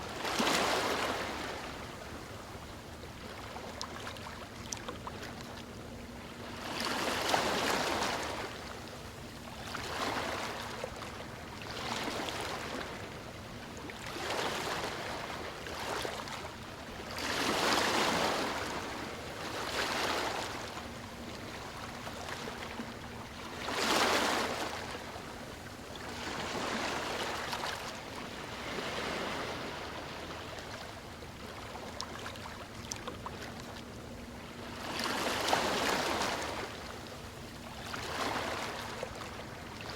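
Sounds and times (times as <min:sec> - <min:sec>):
ocean waves lapping on shore: 0:00.0 - 0:39.9.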